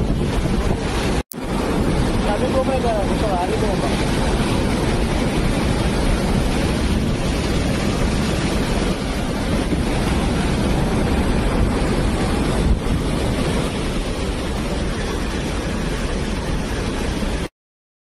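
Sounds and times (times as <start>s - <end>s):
water rushing through spillway: 0.0s - 17.5s.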